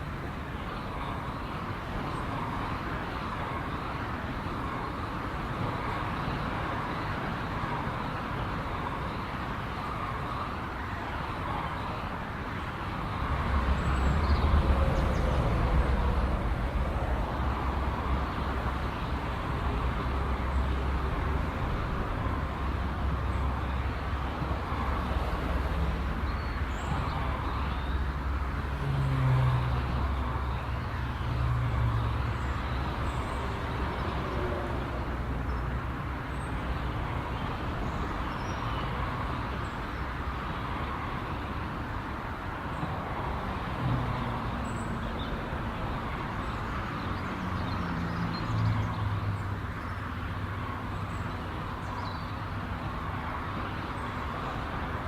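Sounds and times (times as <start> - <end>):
heavy vehicles rumbling: 0.0 - 55.0.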